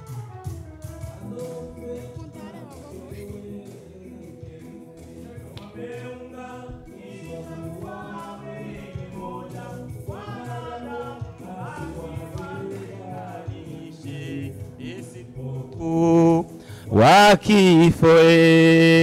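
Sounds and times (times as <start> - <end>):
group of voices singing: 1.0 - 19.0.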